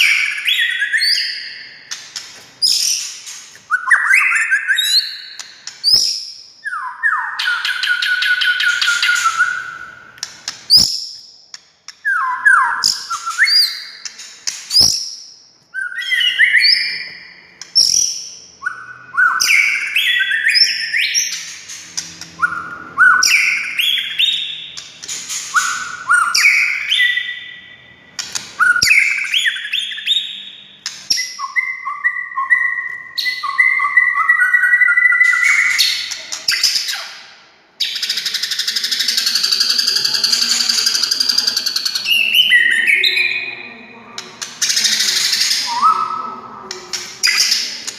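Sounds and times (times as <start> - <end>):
songbird singing: 2.6 - 11.3, 11.9 - 37.2, 37.8 - 47.9.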